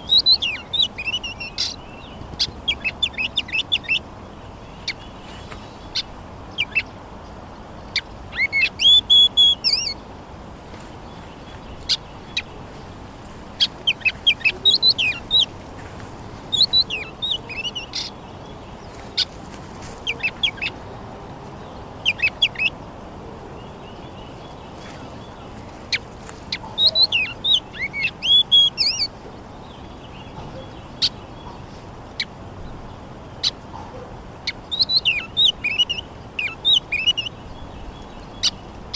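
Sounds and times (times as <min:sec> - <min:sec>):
songbird warbling: 0:00.0 - 0:07.0, 0:07.8 - 0:10.0, 0:10.7 - 0:38.9
steady low hiss: 0:00.0 - 0:38.9.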